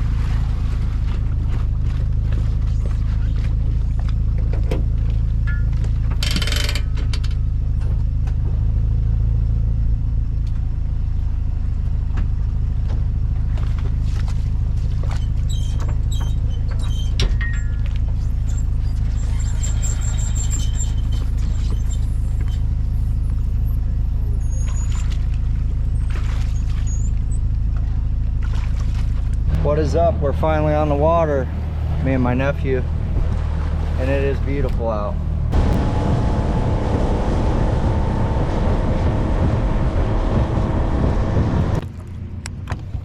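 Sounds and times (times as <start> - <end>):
vehicle engine and road rumble: 0.0 - 43.0.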